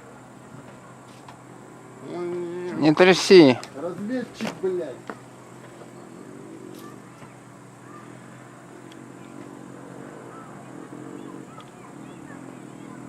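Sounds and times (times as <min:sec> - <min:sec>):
propeller engine droning: 0:00.0 - 0:13.0.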